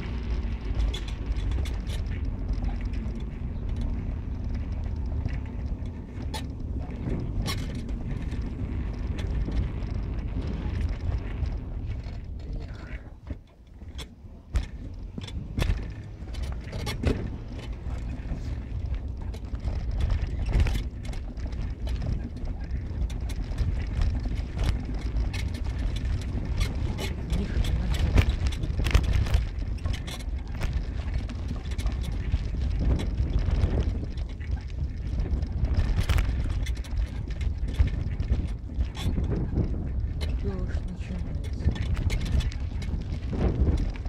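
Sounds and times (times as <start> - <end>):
knocks and rattles: 0.0 - 44.0
vehicle rumbling over bumps: 0.0 - 44.0.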